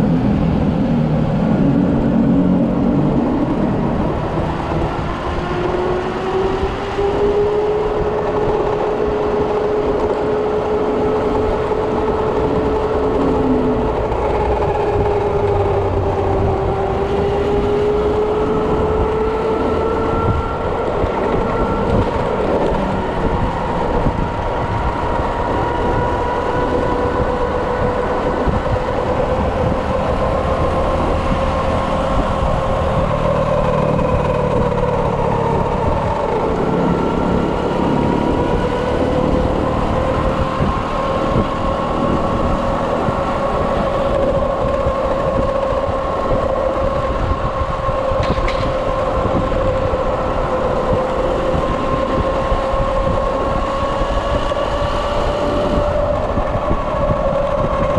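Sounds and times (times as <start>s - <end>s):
road rumble: 0.0s - 57.9s
wind noise: 0.0s - 57.9s.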